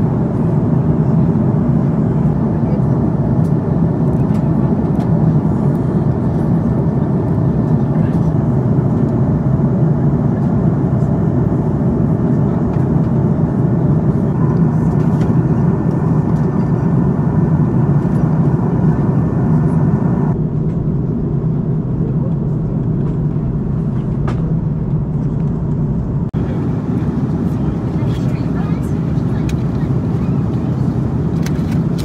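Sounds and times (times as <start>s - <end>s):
airplane cabin engine roar: 0.0s - 32.0s.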